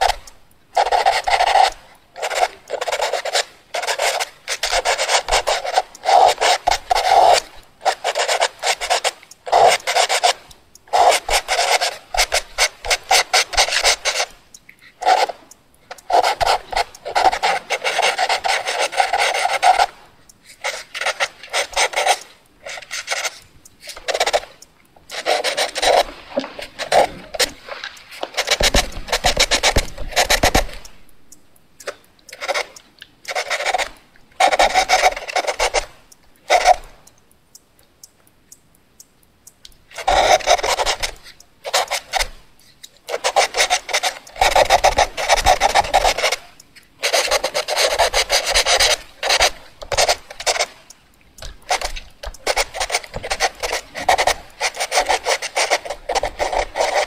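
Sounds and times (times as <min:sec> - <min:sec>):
pencil scratching on paper: 0:00.0 - 0:14.4, 0:15.0 - 0:30.9, 0:32.4 - 0:35.9, 0:36.5 - 0:36.9, 0:40.0 - 0:42.3, 0:43.1 - 0:50.8, 0:51.4 - 0:57.0.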